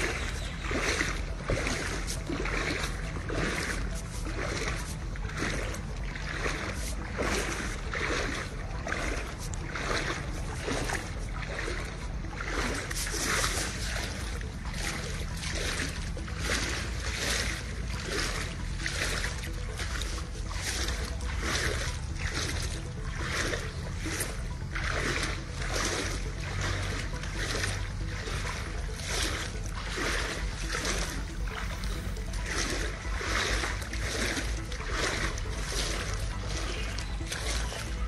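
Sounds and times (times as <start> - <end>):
floodwater splashing and sloshing: 0.0 - 38.0.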